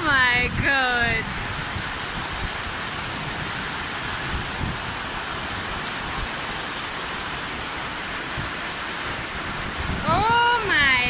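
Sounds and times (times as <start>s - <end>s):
heavy rain on paving: 0.0s - 11.0s.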